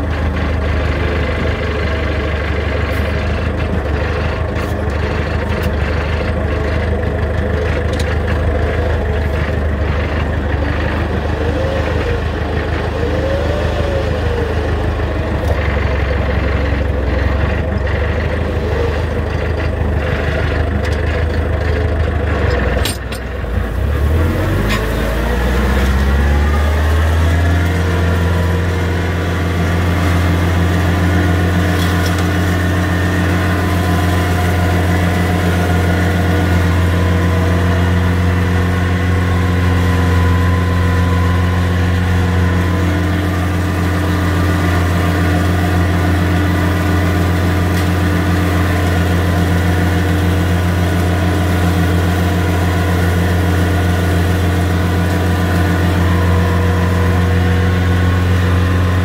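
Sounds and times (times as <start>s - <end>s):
flail mower cutting grass: 0.0s - 59.0s
tractor engine running: 0.0s - 59.0s.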